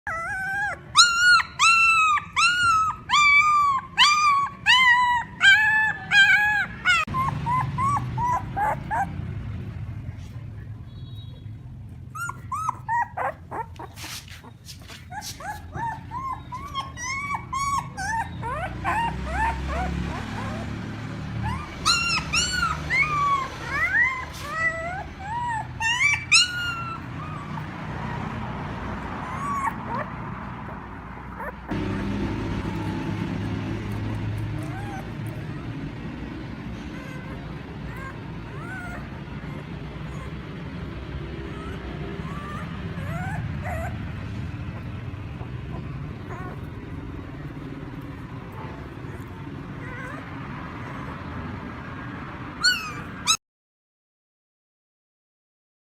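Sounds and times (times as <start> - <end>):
puppies crying and whining: 0.0 - 10.3, 11.4 - 53.4.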